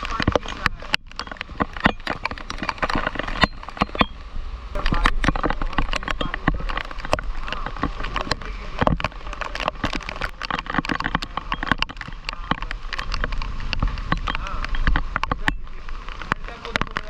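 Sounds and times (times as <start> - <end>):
heavy rain pouring: 0.0 - 17.0
raindrops hitting hard surfaces: 0.0 - 17.0.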